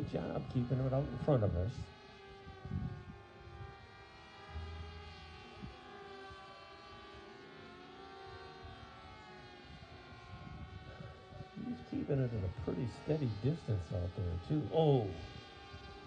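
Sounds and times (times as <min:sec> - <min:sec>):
model plane motors droning: 0:00.0 - 0:16.0.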